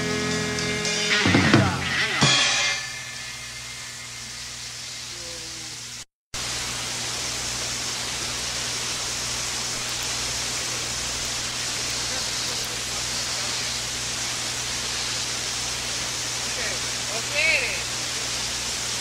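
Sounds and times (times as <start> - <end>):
steady hiss: 0.0 - 19.0
low electrical hum: 2.7 - 19.0.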